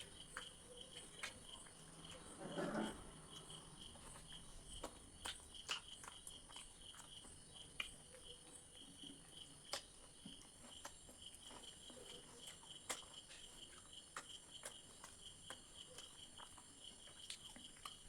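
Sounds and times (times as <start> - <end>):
chewing: 0.0 - 18.0
crickets chirping: 0.0 - 18.0.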